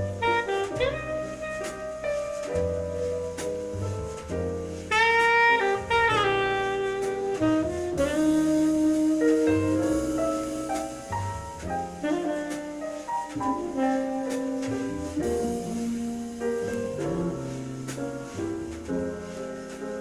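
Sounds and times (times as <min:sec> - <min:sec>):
jazz saxophone melody: 0:00.0 - 0:20.0
walking double bass: 0:00.0 - 0:20.0.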